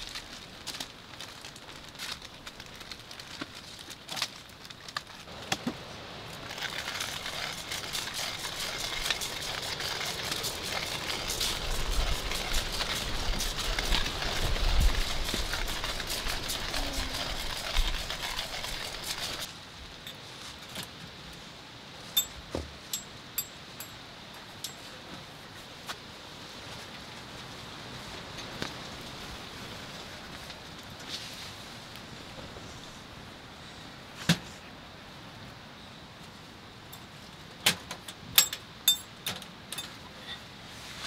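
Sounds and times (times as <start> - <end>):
wind buffeting tent fabric: 0.0 - 22.9, 24.4 - 34.7.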